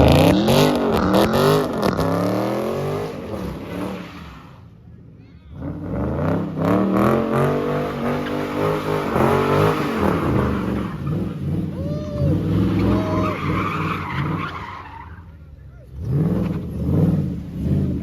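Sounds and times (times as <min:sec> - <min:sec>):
car engine revving: 0:00.0 - 0:04.9, 0:05.5 - 0:18.0.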